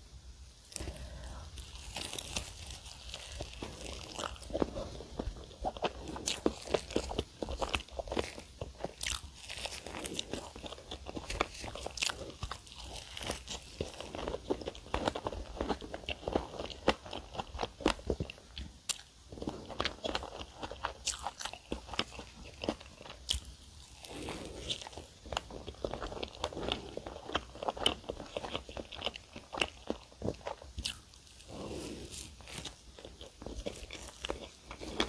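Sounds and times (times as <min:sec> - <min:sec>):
pastry crust crunching: 0:00.7 - 0:35.0
soft chewing: 0:00.7 - 0:35.0.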